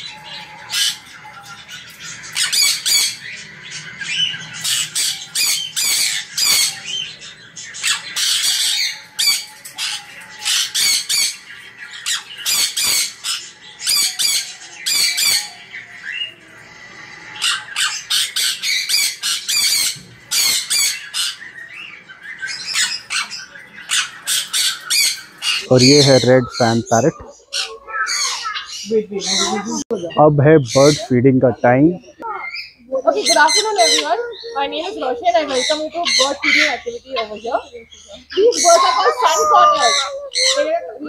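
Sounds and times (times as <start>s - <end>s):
parrots screeching: 0.0s - 31.2s, 32.0s - 41.0s.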